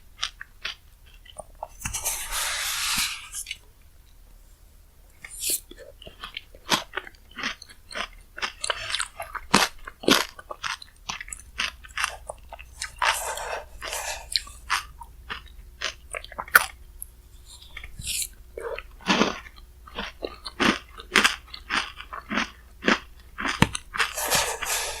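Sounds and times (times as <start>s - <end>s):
chewing and crunching: 0.1s - 2.0s, 5.1s - 25.0s.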